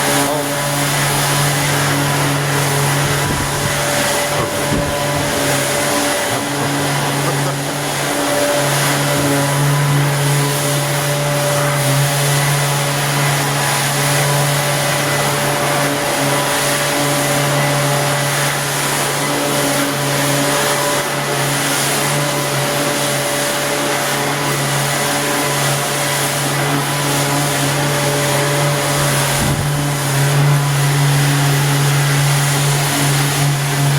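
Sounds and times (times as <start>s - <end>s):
electric motor hissing and humming: 0.0s - 19.4s, 25.6s - 33.9s.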